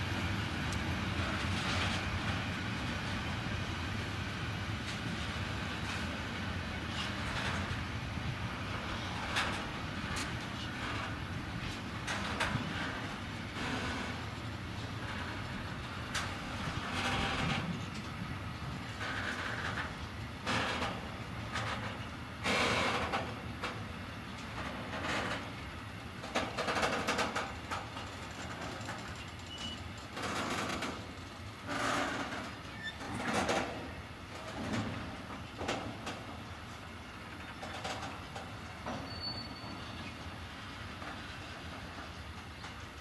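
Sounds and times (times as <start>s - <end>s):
freight train wheels rumbling on rail: 0.0s - 43.0s.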